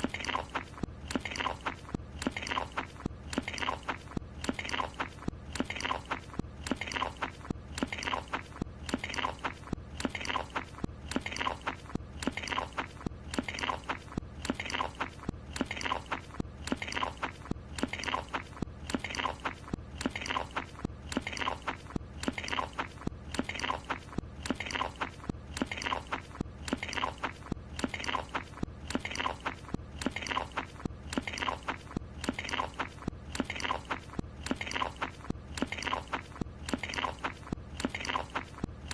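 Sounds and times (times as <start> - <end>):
cartoon chewing and munching: 0.0 - 38.9.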